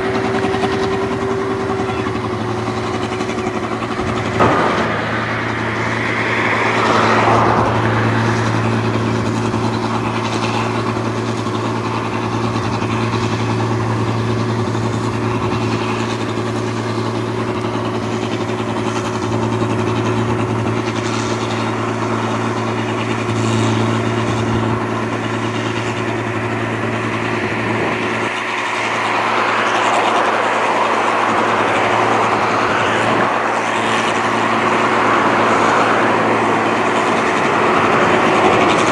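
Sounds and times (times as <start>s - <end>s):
broad mechanical noise: 0.0s - 38.9s
combine harvester engine hum: 0.0s - 38.9s.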